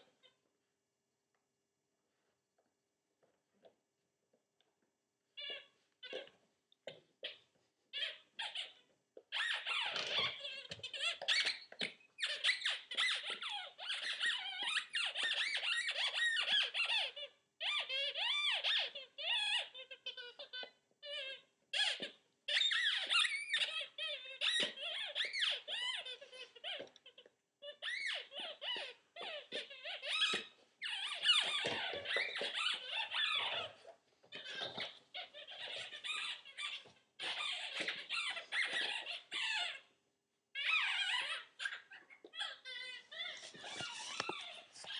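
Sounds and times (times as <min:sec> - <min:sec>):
squeaky dog toy squeaking: 0:05.4 - 0:06.3, 0:07.2 - 0:39.9, 0:40.5 - 0:44.9.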